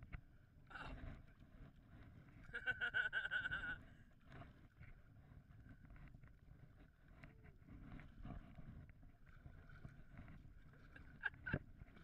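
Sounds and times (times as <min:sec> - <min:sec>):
water lapping on hull: 0:00.5 - 0:12.0.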